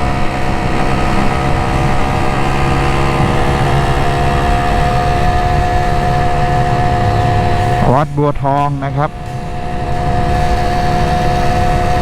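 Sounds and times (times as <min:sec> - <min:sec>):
low wind rumble: 0:00.0 - 0:12.0
motorcycle engine cruising: 0:00.0 - 0:12.0.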